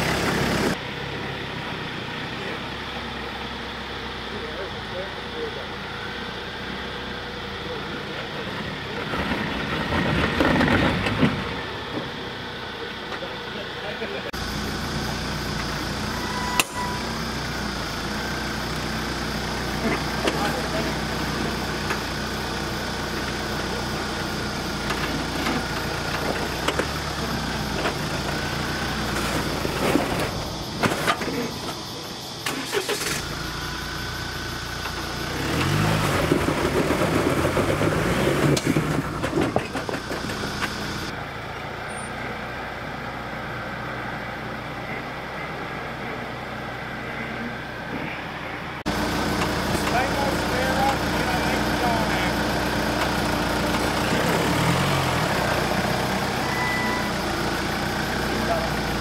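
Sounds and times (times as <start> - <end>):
engine revving: 0.0 - 12.8, 13.6 - 41.2, 44.4 - 59.0.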